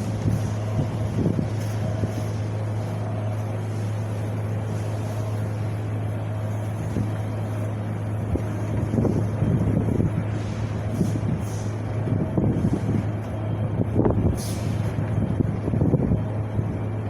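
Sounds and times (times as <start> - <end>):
wind blowing with low rumble: 0.0 - 17.0.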